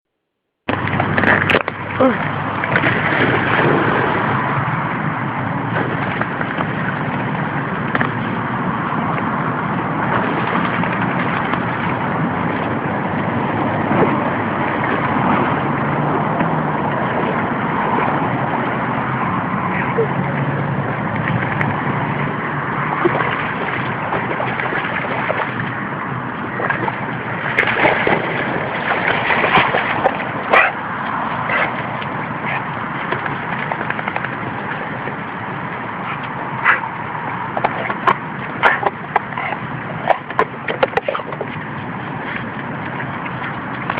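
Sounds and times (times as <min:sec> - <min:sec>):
dog splashing in water: 0:00.7 - 0:04.8, 0:09.4 - 0:43.9
water rushing: 0:00.7 - 0:43.9.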